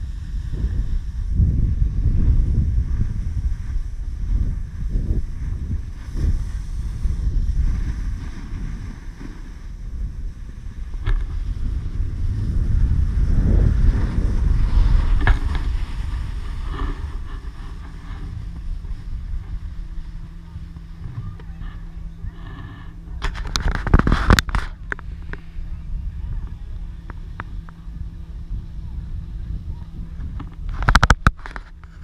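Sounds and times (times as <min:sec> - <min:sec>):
snowboard sliding over snow: 0:00.0 - 0:32.0
wind buffeting microphone: 0:00.0 - 0:32.0.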